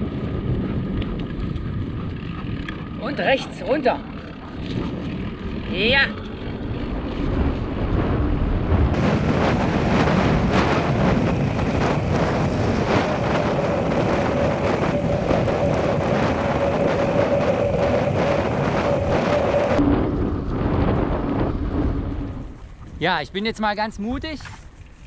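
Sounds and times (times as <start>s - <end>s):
bike rattling over rough grass: 0.0s - 8.2s, 9.0s - 23.1s
wind buffeting microphone: 0.0s - 25.0s.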